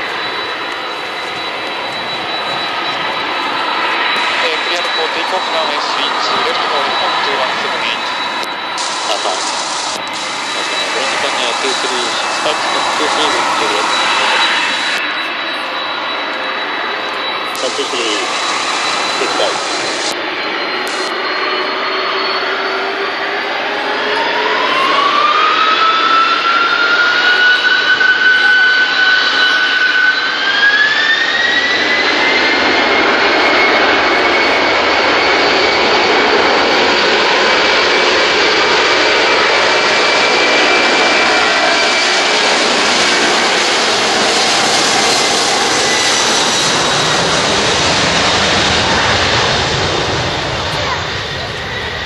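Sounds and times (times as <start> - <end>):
jet engines spooling up: 0.0 - 52.0.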